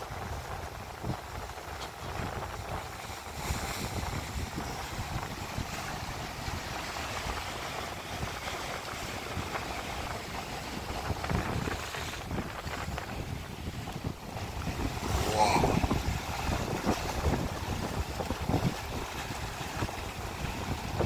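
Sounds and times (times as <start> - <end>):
surf washing against rocks: 0.0 - 21.0
wind buffeting microphone: 0.0 - 21.0.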